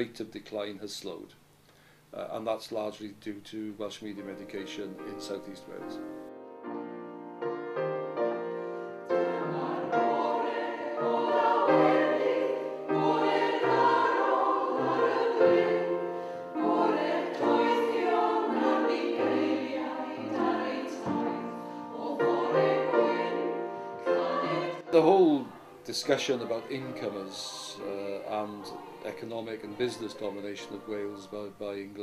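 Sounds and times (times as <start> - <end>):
choir singing held chords: 4.4 - 32.0.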